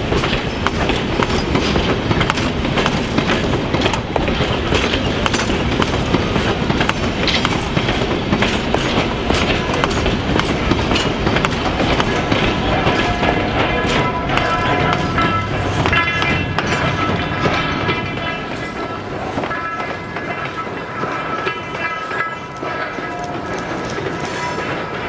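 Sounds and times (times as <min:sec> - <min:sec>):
train coaches rumbling: 0:00.0 - 0:25.0
wheels clacking on track: 0:00.0 - 0:25.0.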